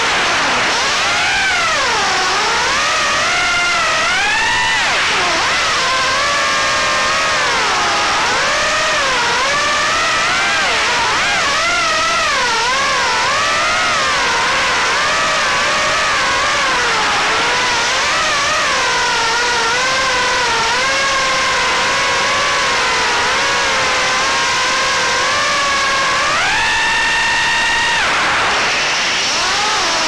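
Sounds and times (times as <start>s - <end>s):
quadcopter motors whining: 0.0s - 30.0s.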